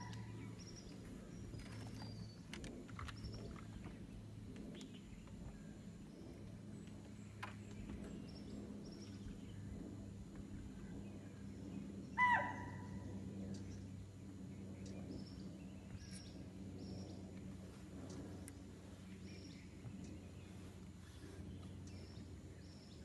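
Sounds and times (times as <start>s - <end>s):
low hum: 0.0s - 23.0s
small birds chirping: 0.0s - 23.0s.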